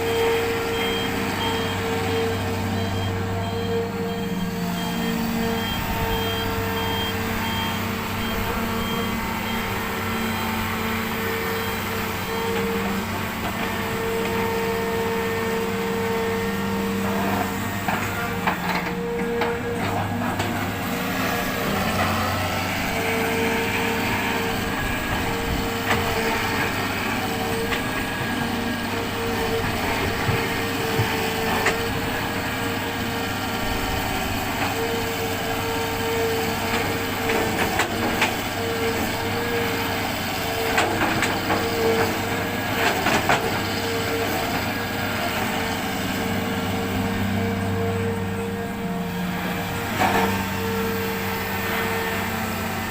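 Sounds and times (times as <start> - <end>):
excavator diesel drone: 0.0 - 52.9
hydraulic whine: 0.0 - 52.9.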